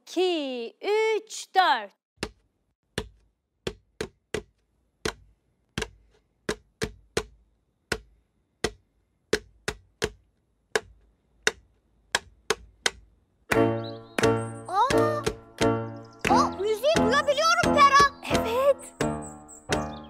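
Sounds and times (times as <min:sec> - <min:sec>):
wooden sticks knocking a rhythm: 0:02.2 - 0:20.0.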